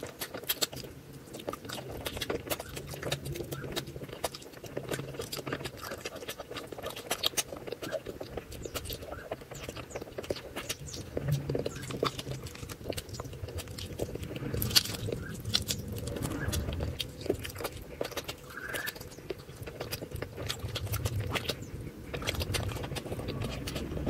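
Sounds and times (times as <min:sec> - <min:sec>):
chewing with wet mouth clicks: 0:00.0 - 0:24.0.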